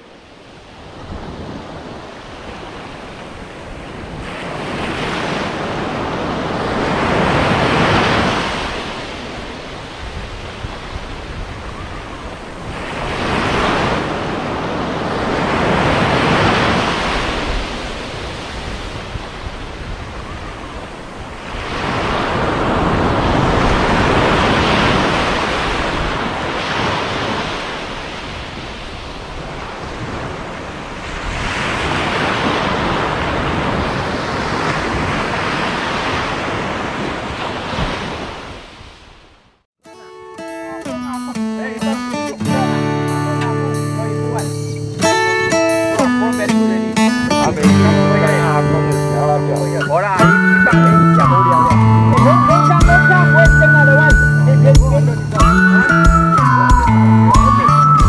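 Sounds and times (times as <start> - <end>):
sea waves washing onto beach: 0.0 - 39.5, 40.6 - 58.0.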